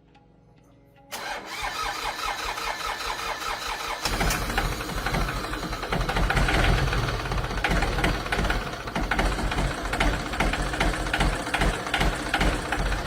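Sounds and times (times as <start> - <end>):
tractor engine starting: 1.1 - 13.0.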